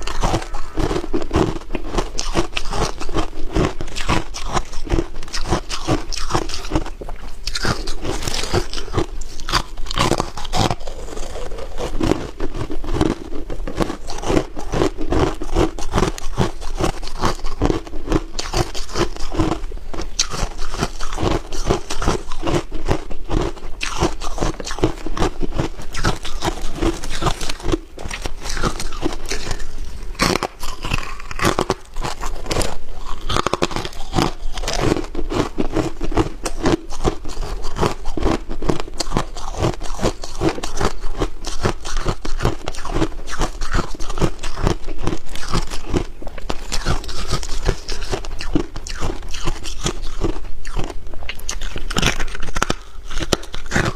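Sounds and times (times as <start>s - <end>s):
ice being chewed: 0.0s - 53.9s.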